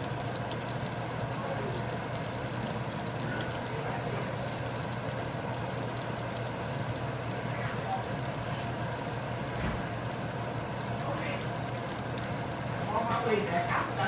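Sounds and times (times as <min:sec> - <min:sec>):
food sizzling in hot oil: 0:00.0 - 0:14.0
range hood fan hum: 0:00.0 - 0:14.0.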